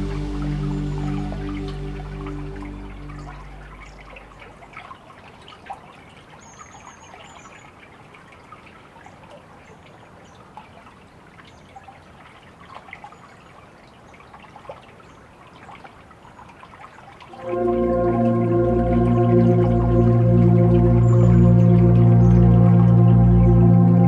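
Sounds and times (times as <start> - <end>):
water trickling and dripping: 0.0 - 24.0.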